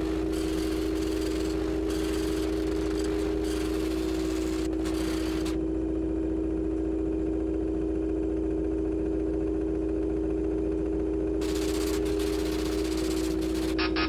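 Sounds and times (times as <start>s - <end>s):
steady droning hum: 0.0s - 14.0s.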